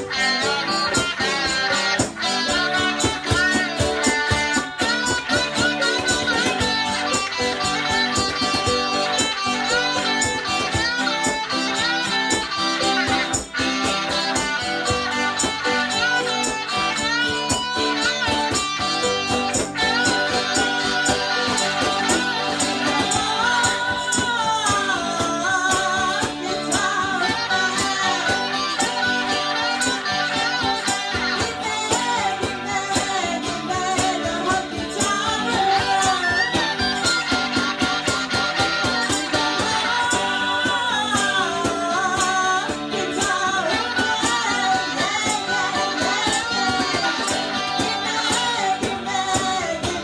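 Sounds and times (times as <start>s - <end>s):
band playing country-blues: 0.0s - 50.0s.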